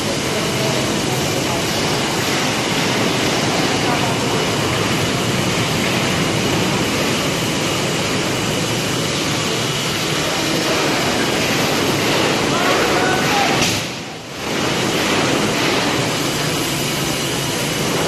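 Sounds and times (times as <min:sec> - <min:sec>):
construction machinery hiss and rumble: 0:00.0 - 0:18.0.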